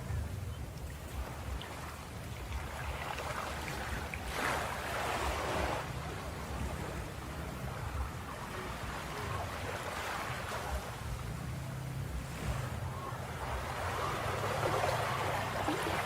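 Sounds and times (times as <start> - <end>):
ocean surf washing onto beach: 0.0 - 16.0
steady low rumble: 0.0 - 16.0.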